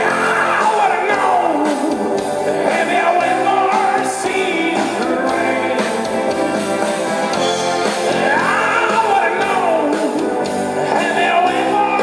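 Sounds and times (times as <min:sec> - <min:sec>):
man singing: 0:00.0 - 0:06.5, 0:08.1 - 0:12.0
bass guitar: 0:00.0 - 0:12.0
drums: 0:00.0 - 0:12.0
electric guitar: 0:00.0 - 0:12.0.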